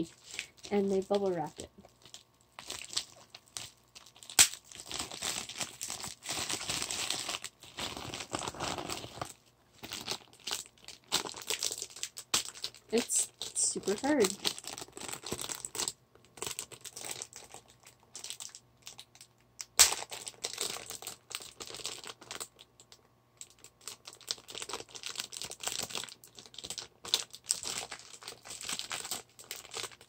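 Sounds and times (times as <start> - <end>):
plastic wrapper crinkling: 0.0 - 30.0.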